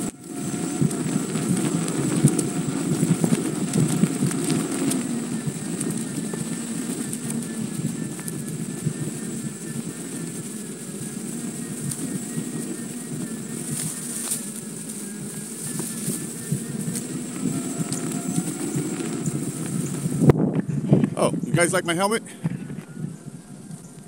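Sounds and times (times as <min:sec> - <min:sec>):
electric motor whine: 0:00.0 - 0:24.0
wind and trail rumble: 0:00.0 - 0:24.0.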